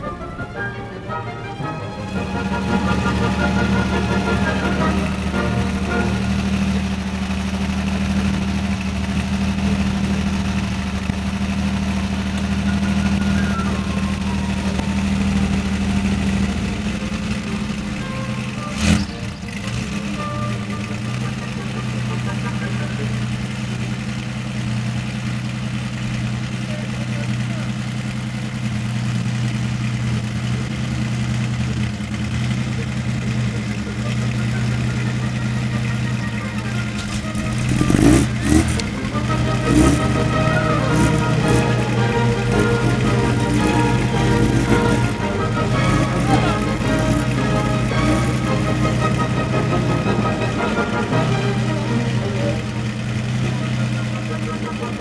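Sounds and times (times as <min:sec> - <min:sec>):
racing car engines idling: 0:00.0 - 0:55.0.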